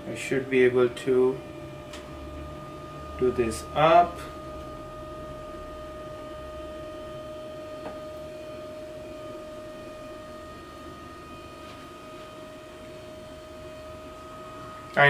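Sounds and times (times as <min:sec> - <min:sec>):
desk lift motor whining: 0:00.0 - 0:15.0.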